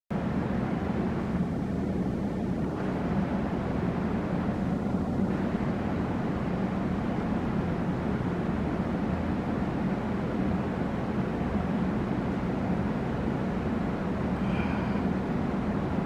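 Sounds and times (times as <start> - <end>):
low mechanical drone: 0.1 - 16.0.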